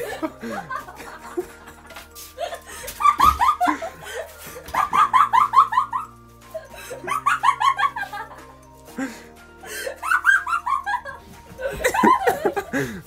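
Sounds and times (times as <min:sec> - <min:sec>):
faint music: 0:00.0 - 0:13.0
stifled giggling: 0:00.0 - 0:13.0.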